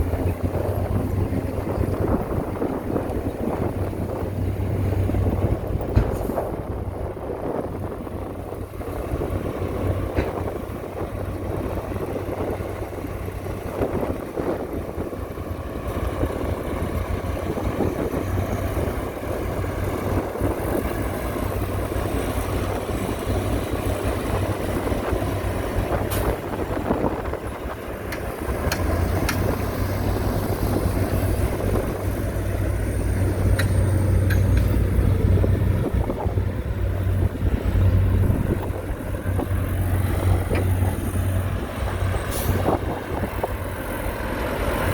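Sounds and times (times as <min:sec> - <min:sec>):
diesel engine humming: 0:00.0 - 0:44.9.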